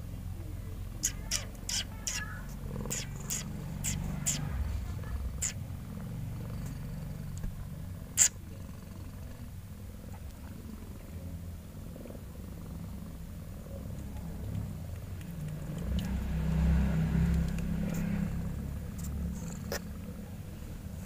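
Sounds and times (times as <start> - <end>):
cat purring: 0.2 - 21.0.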